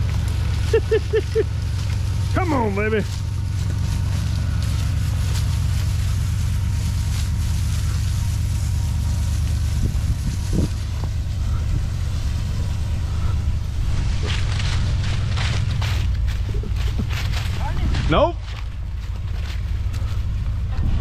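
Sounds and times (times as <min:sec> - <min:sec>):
truck engine running under load: 0:00.0 - 0:21.0.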